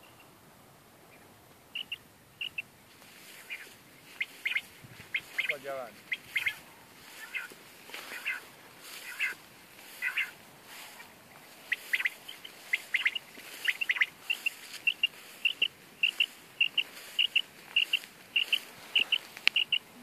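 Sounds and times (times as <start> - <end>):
high chirps: 1.1 - 2.7, 3.3 - 8.4, 10.0 - 20.0.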